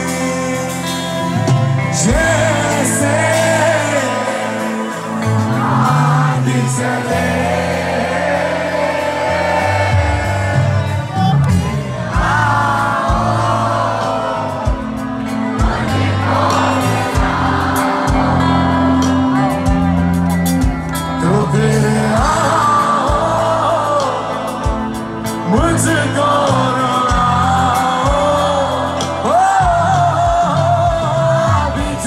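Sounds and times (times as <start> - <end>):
crowd voices: 0.0 - 32.0
live rock band playing: 0.0 - 32.0
man singing lead: 0.0 - 32.0.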